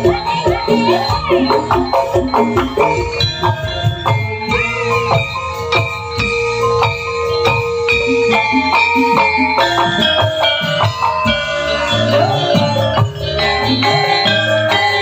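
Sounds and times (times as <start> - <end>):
metallophones struck with mallets: 0.0 - 15.0.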